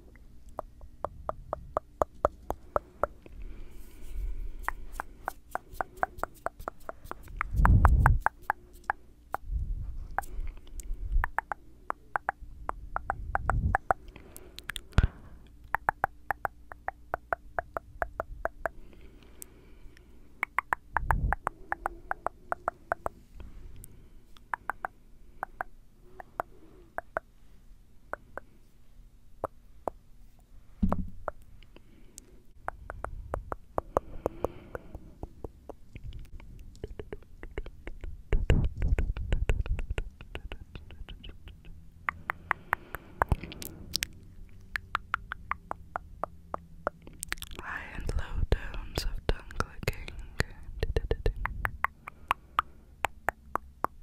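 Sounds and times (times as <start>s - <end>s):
tongue clicking: 0.1s - 3.3s, 4.6s - 9.4s, 10.1s - 19.5s, 20.4s - 23.2s, 23.8s - 27.3s, 31.2s - 47.7s, 49.6s - 54.0s
wet mouth sounds: 0.1s - 9.5s, 10.1s - 18.8s, 20.4s - 23.2s, 24.4s - 27.3s, 32.6s - 47.8s, 49.6s - 54.0s.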